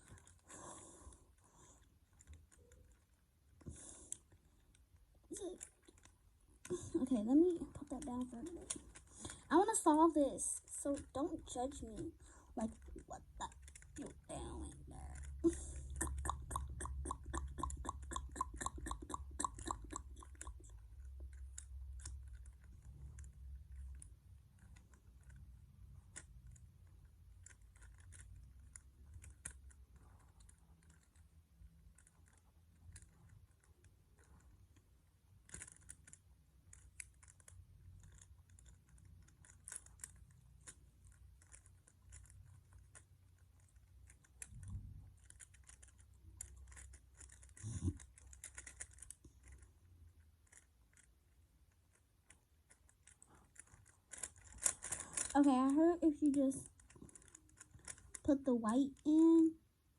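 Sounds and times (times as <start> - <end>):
puzzle cube clicking: 0.0 - 59.6
low steady hum: 0.0 - 59.9.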